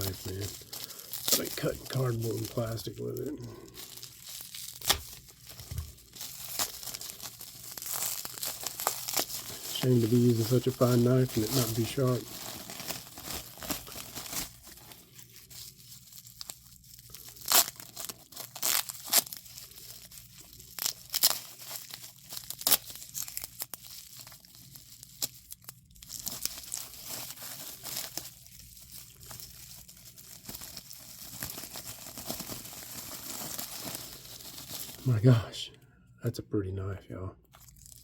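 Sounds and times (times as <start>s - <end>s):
packaging crinkling and tearing: 0.0s - 35.6s, 37.4s - 38.0s.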